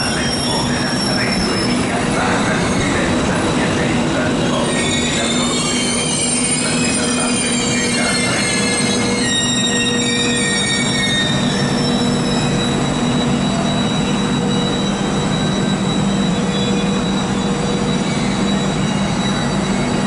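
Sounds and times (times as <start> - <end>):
train wheels squealing: 0.0 - 20.0.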